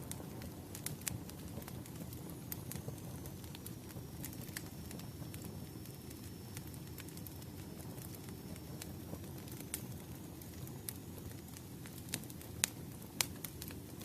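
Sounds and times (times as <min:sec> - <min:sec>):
firewood crackling and popping: 0:00.0 - 0:14.0
low rumble of flames: 0:00.0 - 0:14.0.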